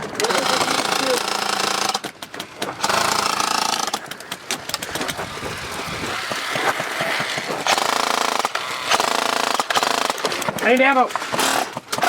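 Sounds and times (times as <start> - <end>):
airsoft gun full-auto burst: 0.2 - 2.1, 2.8 - 12.0.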